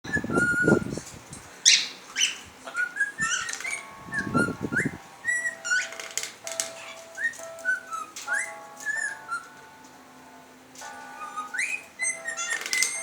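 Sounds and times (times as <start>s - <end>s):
cockatiels whistling and calling: 0.1s - 1.0s, 1.6s - 9.6s, 10.9s - 13.0s.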